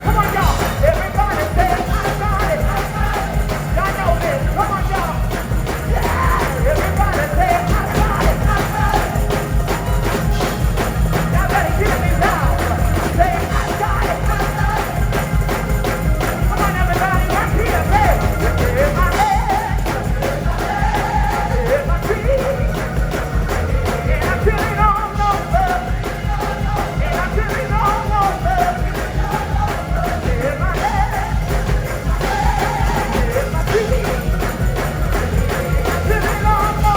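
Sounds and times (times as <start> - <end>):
drums and bass beat: 0.0 - 36.9
gospel choir singing: 0.0 - 36.9.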